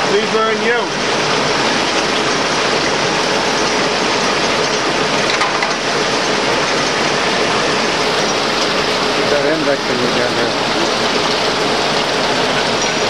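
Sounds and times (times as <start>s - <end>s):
lathe mechanical din: 0.0s - 13.0s.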